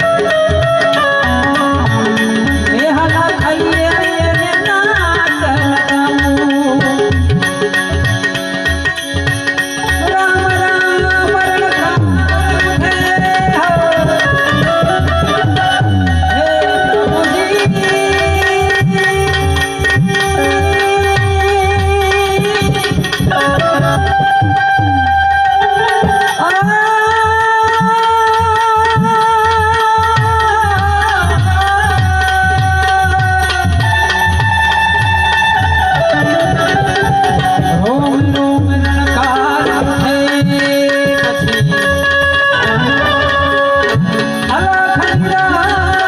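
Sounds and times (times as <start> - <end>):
harmonium melody: 0.0 - 46.0
tabla rhythm: 0.0 - 46.0.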